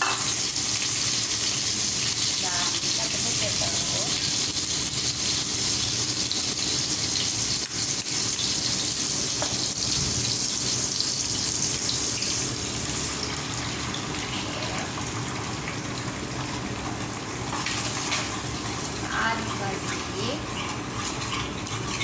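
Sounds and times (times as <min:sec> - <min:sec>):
food frying in oil: 0:00.0 - 0:22.0.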